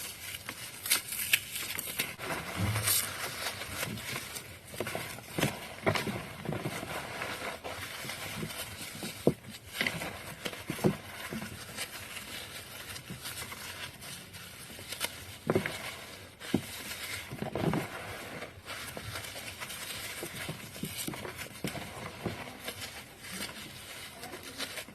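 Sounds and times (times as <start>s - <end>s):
floral foam crunching: 0.0s - 24.9s.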